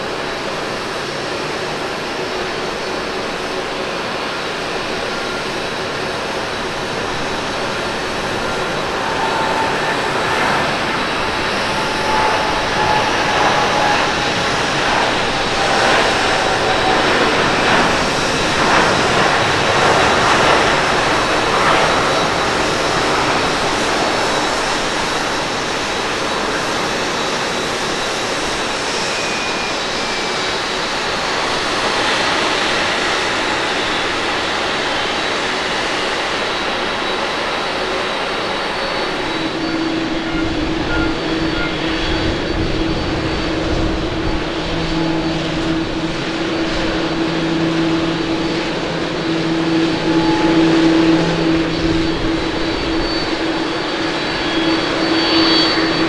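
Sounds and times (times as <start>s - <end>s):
jet engines humming on runway: 0.0s - 56.0s
jet engines roaring at takeoff: 0.0s - 56.0s.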